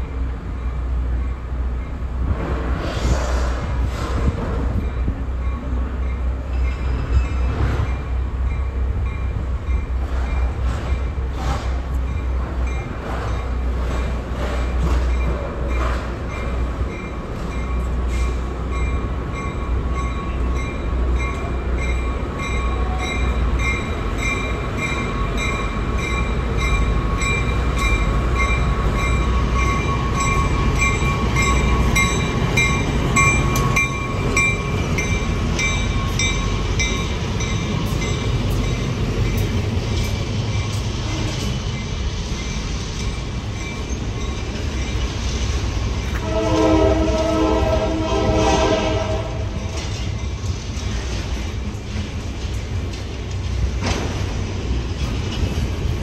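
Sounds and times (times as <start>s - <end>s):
diesel locomotive rumble: 0.0s - 56.0s
steel wheels on rails: 0.0s - 56.0s.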